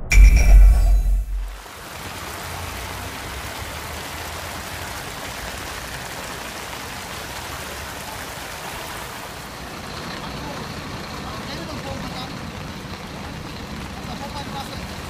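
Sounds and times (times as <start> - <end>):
storm water gushing: 1.3 - 15.0.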